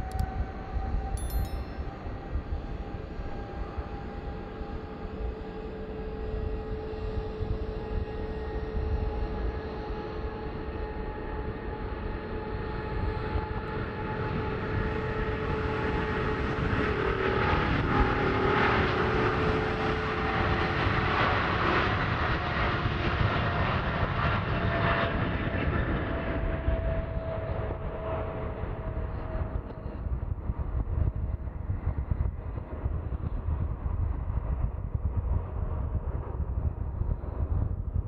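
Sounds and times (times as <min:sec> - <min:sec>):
jet engine roar with whine: 0:02.1 - 0:38.0.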